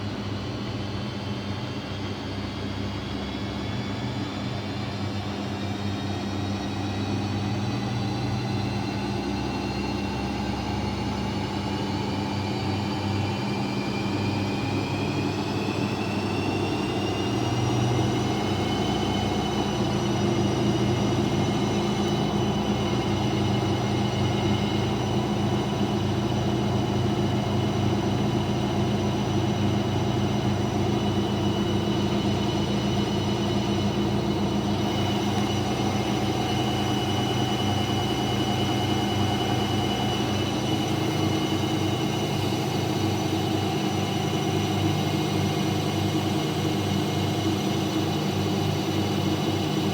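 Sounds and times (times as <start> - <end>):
motor whine rising: 5.9 - 49.9.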